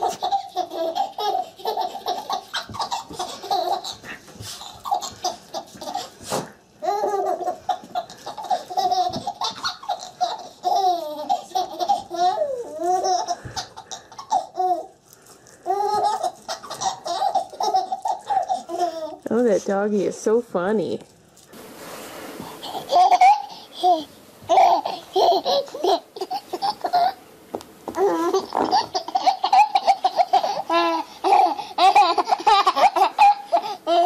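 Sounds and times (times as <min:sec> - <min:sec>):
baby laughing: 0:00.0 - 0:15.0, 0:15.6 - 0:19.2, 0:22.6 - 0:27.2, 0:28.0 - 0:34.0.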